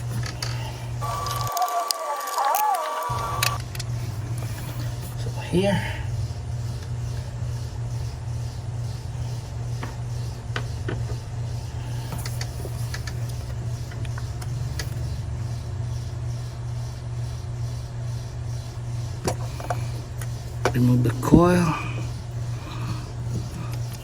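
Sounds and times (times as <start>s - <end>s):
steady low hum: 0.0s - 1.6s, 2.9s - 24.0s.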